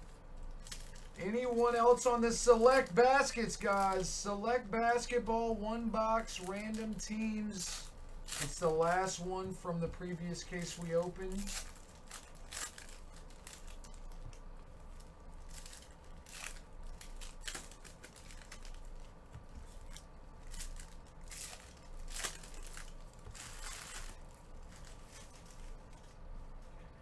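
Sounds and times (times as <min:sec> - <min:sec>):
foil wrappers crinkling: 0:00.0 - 0:26.8.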